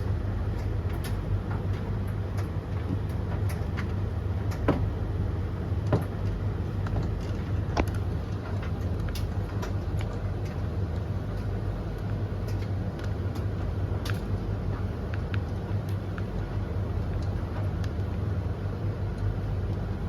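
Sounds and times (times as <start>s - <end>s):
tumble dryers humming and rumbling: 0.0s - 20.0s.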